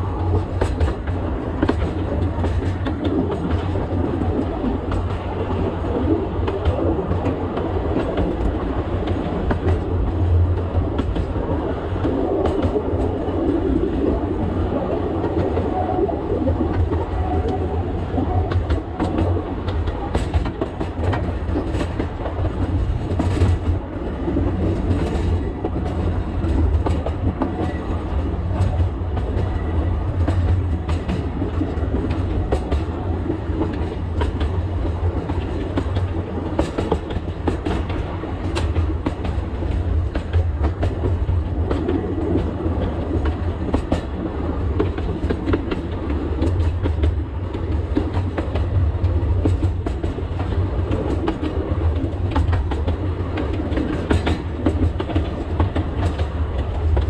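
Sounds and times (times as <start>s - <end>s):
wheels clicking over rail joints: 0.0s - 14.1s, 14.8s - 57.0s
train rumbling: 0.0s - 57.0s.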